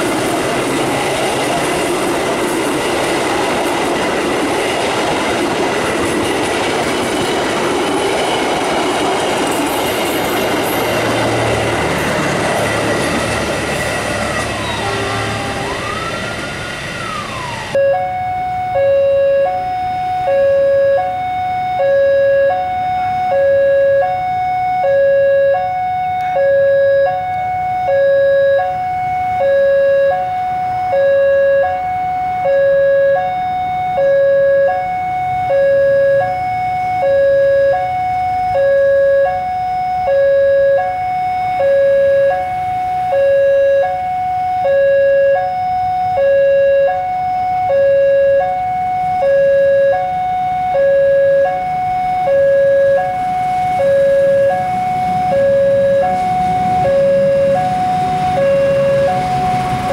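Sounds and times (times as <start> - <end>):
two-tone warning alarm: 0.0 - 59.9
falling tone: 10.8 - 59.9.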